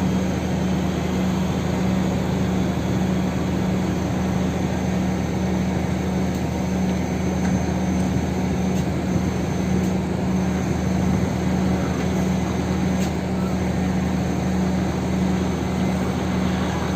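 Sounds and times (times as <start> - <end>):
diesel truck engine running: 0.0 - 16.9.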